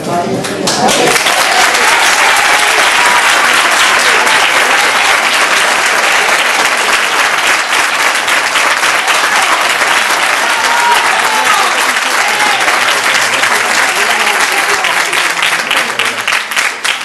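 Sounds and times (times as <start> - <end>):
crowd applauding: 0.4 - 17.0.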